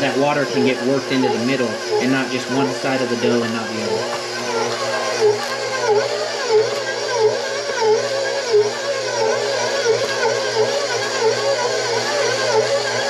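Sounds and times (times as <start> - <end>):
stand mixer motor kneading dough: 0.0 - 13.0.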